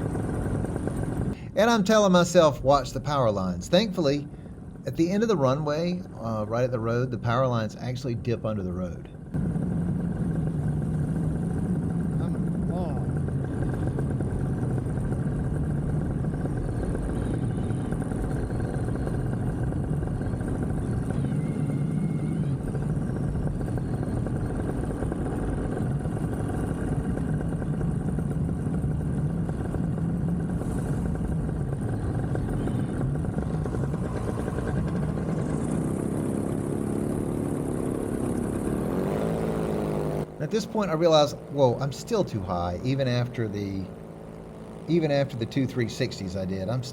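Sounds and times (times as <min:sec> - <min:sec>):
paramotor engine running: 0:00.0 - 0:46.9.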